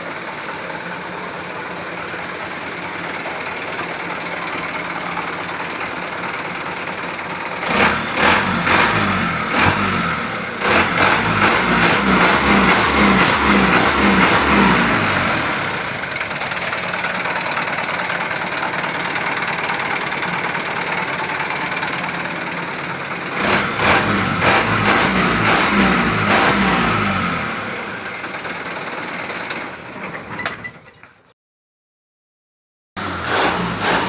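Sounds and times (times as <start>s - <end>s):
vehicle engine running: 0.0s - 30.2s, 33.0s - 34.0s.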